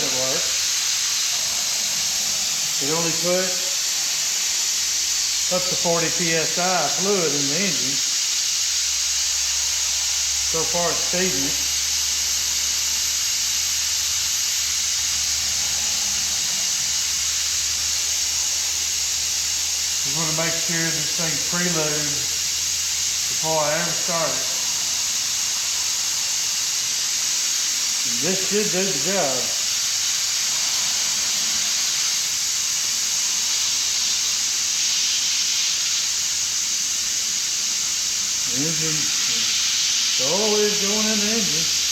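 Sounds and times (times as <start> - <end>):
compressed air hissing: 0.0 - 41.9.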